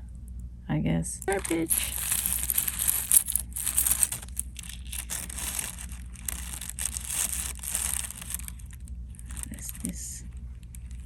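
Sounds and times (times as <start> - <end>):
plastic bag crinkling: 1.2 - 11.0.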